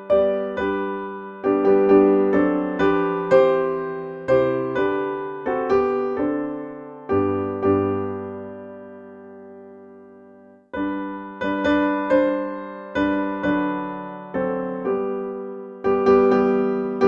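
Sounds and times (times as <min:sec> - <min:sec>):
piano playing hymn chords: 0:00.0 - 0:17.0.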